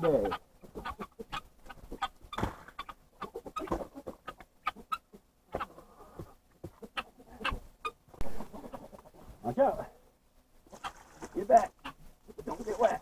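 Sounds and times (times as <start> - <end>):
chickens clucking: 0.0 - 9.9, 10.6 - 13.0.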